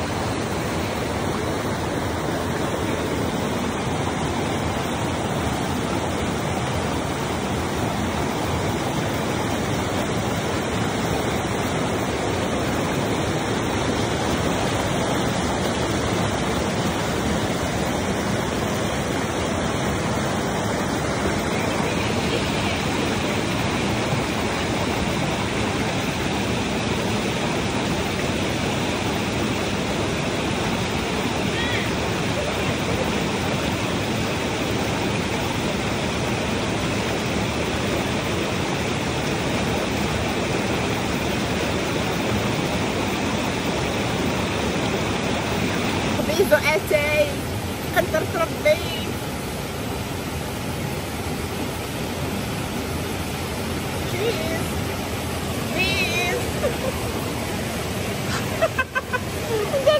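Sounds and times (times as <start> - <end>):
river rushing over waterfalls: 0.0 - 59.9.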